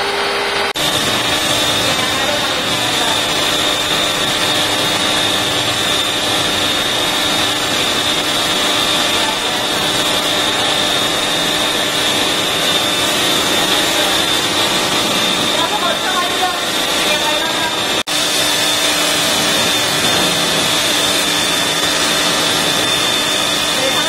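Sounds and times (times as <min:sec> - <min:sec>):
pressure washer pump motor: 0:00.0 - 0:24.0
water jet spraying: 0:00.0 - 0:24.0.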